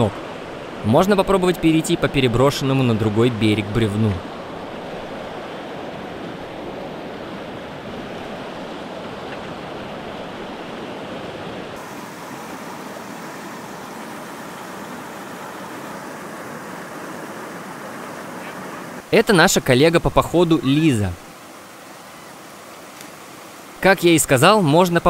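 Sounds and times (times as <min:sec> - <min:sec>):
fast river water rushing: 0:00.0 - 0:25.0.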